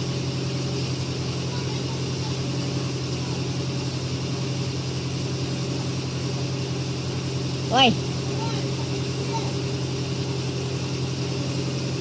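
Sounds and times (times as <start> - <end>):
heavy equipment engine droning: 0.0 - 12.0.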